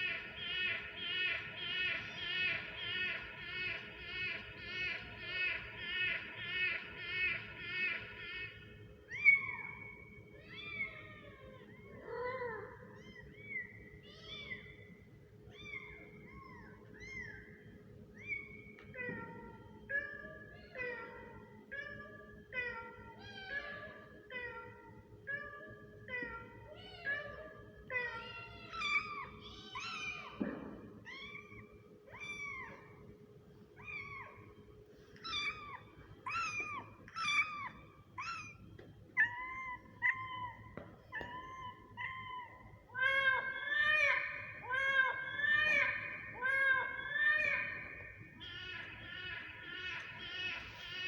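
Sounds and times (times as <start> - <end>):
kittens meowing: 0.0 - 33.1, 33.7 - 51.0.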